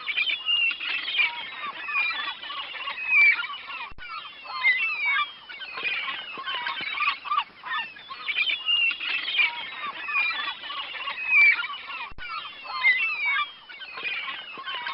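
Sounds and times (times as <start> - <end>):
waterfowl flock calling: 0.0 - 14.9.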